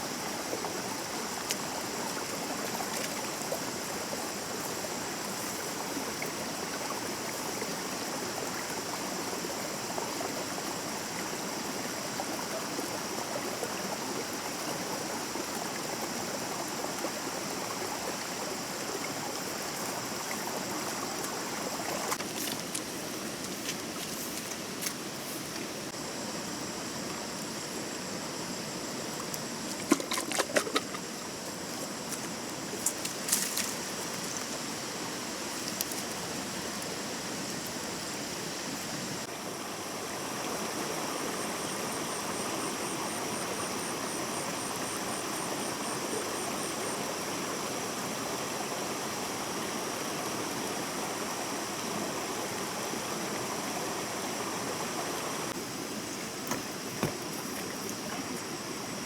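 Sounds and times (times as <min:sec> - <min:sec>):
small stream flowing: 0:00.0 - 0:59.0.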